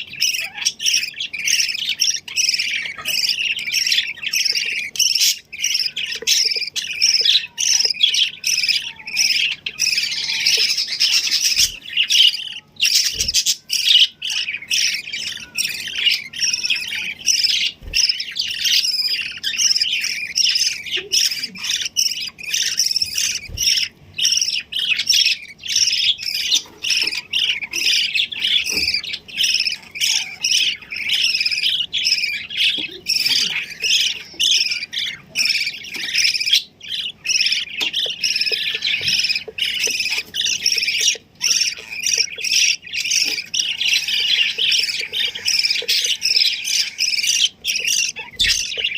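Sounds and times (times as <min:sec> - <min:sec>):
pet birds chirping and squawking: 0:00.0 - 0:48.9.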